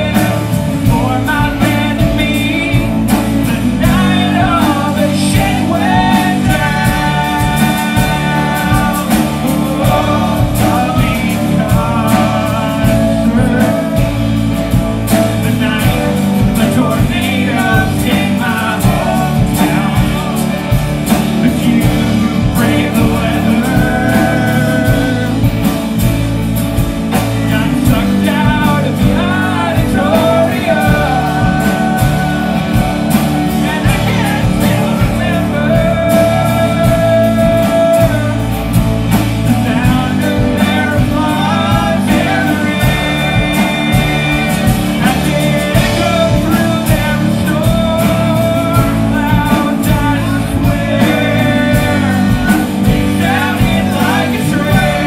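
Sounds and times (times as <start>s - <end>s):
live rock band playing: 0.0s - 55.0s
person singing lead vocal: 0.0s - 55.0s.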